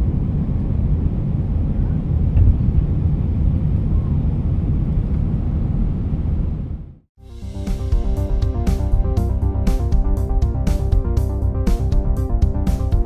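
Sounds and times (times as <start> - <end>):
low rumble of jet engine and airflow: 0.0 - 13.0.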